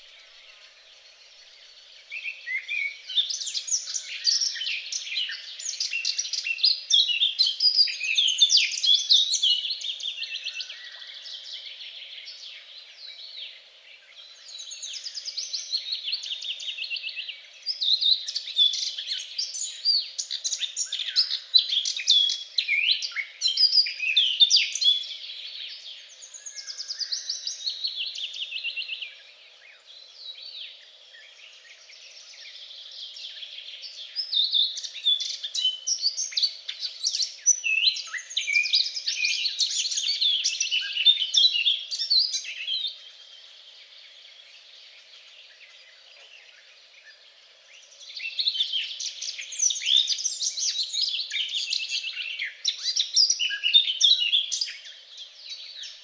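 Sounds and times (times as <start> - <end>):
songbirds warbling and trilling: 0.0 - 56.0.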